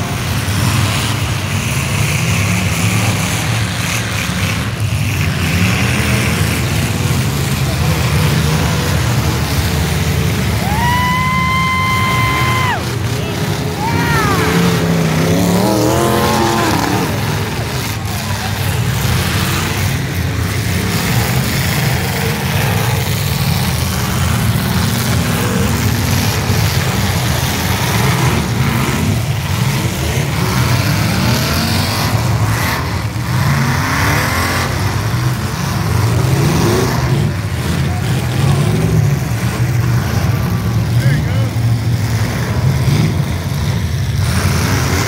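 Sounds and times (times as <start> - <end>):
car engines revving together: 0.0 - 45.0.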